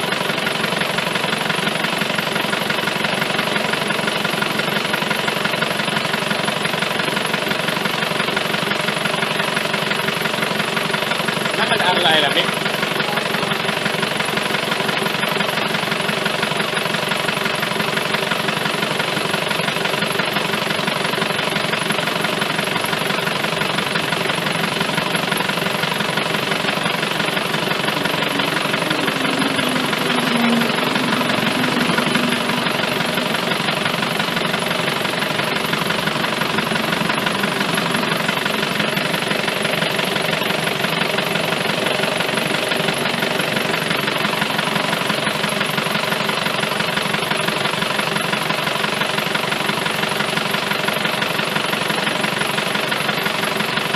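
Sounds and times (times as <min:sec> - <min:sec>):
engine idling with clatter: 0:00.0 - 0:53.9.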